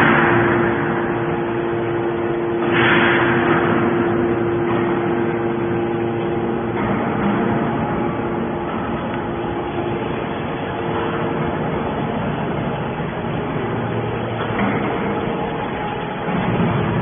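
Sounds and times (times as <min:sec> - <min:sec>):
baler machine hum: 0:00.0 - 0:17.0.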